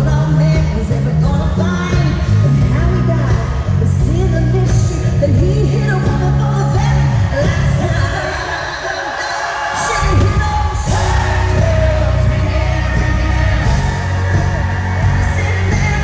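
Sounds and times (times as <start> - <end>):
live country-pop band: 0.0 - 16.0
woman singing: 0.0 - 16.0.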